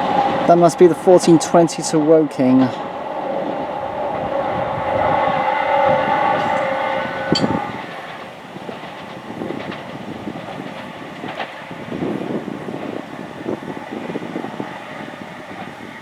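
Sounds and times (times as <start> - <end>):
train motors whining: 0.0 - 16.0
train wheels rumbling on track: 0.0 - 16.0.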